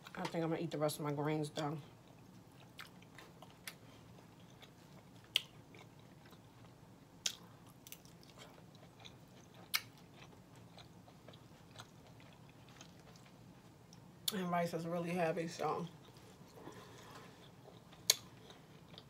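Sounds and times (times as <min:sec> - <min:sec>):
low steady hum: 0:00.0 - 0:19.0
person chewing food: 0:02.0 - 0:14.3, 0:15.9 - 0:19.0.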